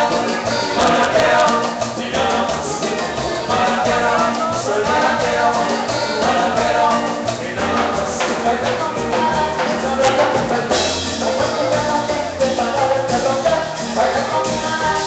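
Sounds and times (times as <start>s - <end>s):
latin dance band through a pa: 0.0s - 15.0s.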